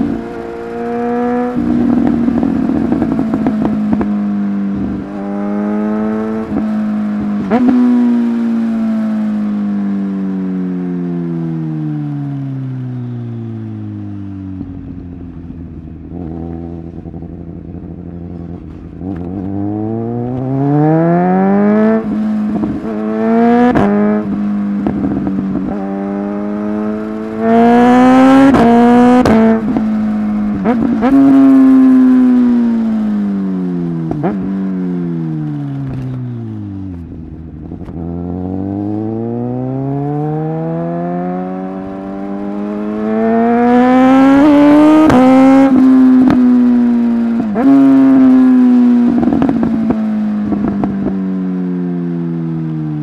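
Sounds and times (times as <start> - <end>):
motorcycle engine accelerating hard: 0.0 - 53.0.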